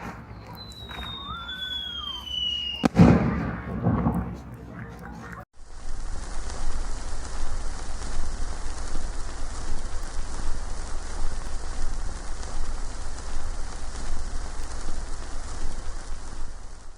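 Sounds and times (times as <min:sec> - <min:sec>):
charcoal fire hissing: 0:00.0 - 0:16.9.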